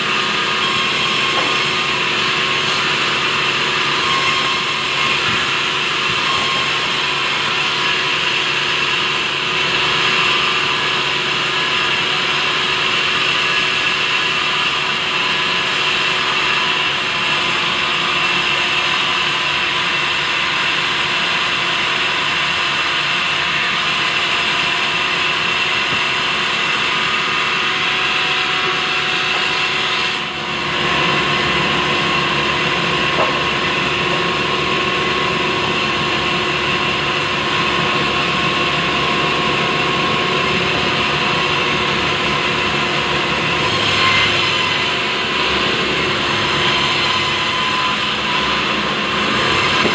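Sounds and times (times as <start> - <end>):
band saw whining: 0.0 - 49.9.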